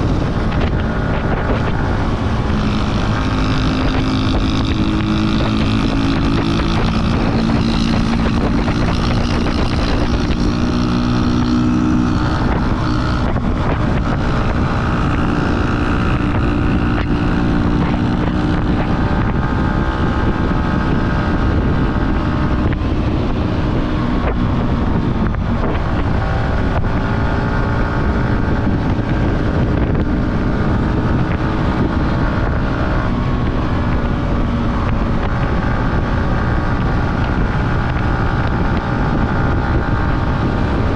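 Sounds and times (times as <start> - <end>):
motorcycle engine accelerating: 0.0 - 40.9
wind buffeting microphone: 0.0 - 40.9.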